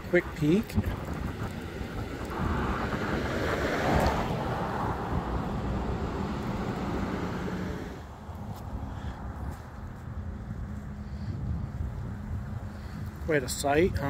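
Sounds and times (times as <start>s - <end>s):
vehicle passing: 0.0s - 13.3s.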